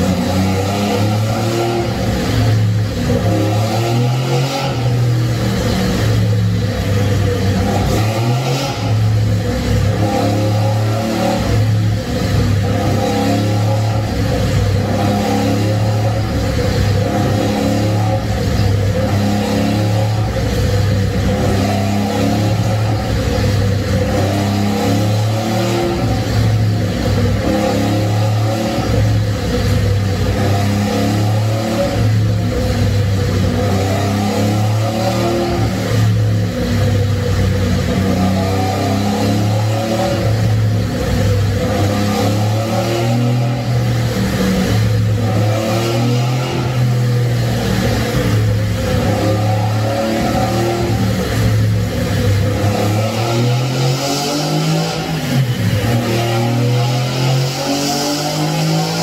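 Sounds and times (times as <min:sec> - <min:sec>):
rotary engine revving: 0:00.0 - 0:59.0.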